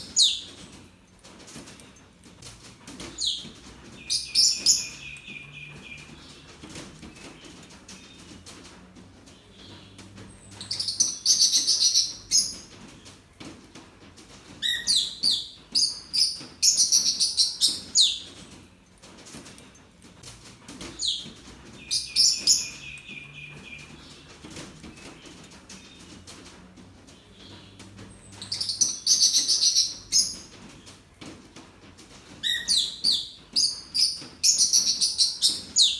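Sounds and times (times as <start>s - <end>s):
small birds chirping: 0.0s - 13.8s, 14.4s - 35.9s.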